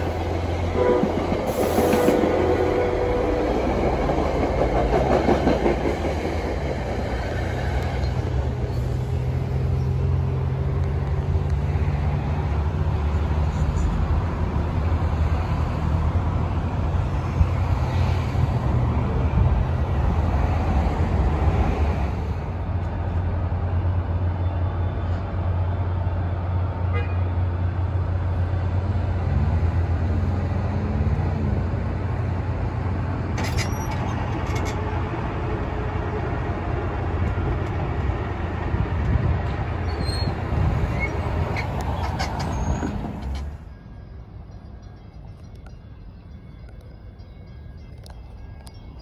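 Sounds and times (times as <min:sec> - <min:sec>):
diesel train rumbling: 0:00.0 - 0:49.0.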